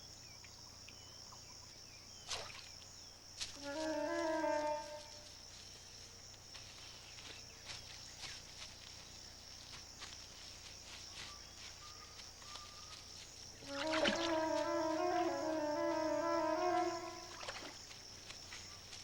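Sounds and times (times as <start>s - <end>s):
faint chirps: 0.0s - 17.8s.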